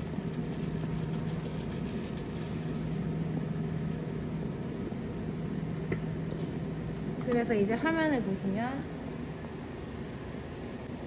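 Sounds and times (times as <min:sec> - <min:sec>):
analyzer mechanical hum: 0:00.0 - 0:11.0.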